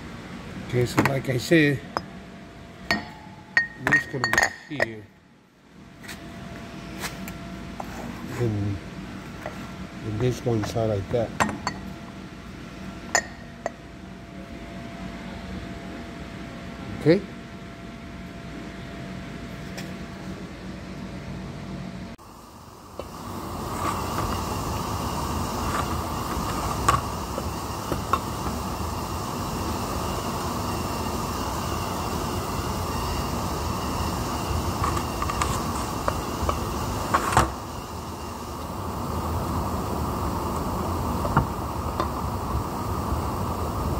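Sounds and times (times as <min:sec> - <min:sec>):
steady mechanical rumble: 0:00.0 - 0:43.9.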